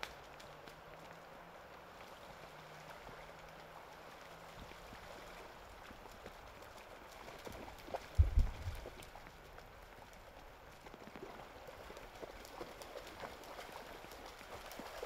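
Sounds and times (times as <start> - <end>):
shallow floodwater: 0.0 - 15.0.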